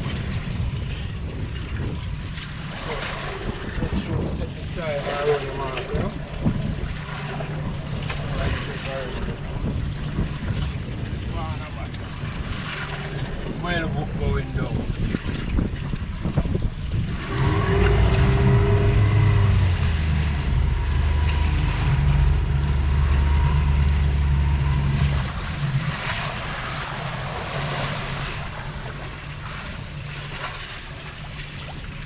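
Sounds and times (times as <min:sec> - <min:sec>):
boat engine running: 0:00.0 - 0:32.0
sea noise: 0:00.0 - 0:32.0
wind: 0:00.0 - 0:32.0.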